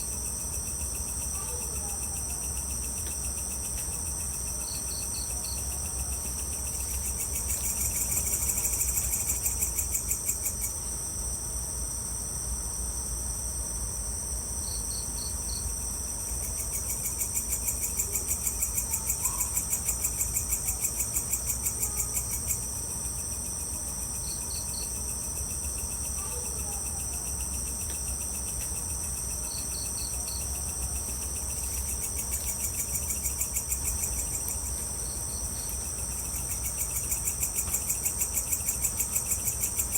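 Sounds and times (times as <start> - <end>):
cricket trill: 0.0 - 39.9.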